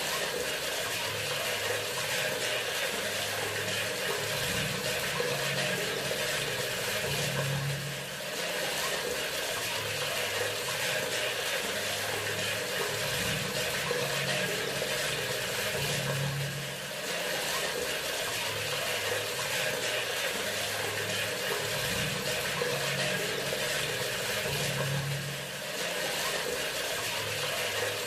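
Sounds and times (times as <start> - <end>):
faucet running water: 0.0 - 28.0.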